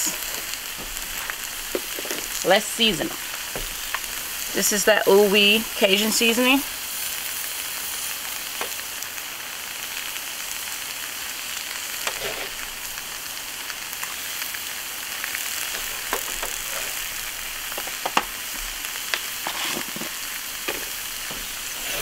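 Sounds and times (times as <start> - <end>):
vegetables sizzling on griddle: 0.0 - 22.0.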